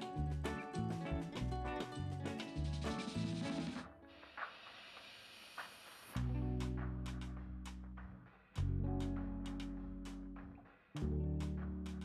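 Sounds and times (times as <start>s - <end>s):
music with bouncing bass line: 0.0s - 3.8s, 6.2s - 12.0s.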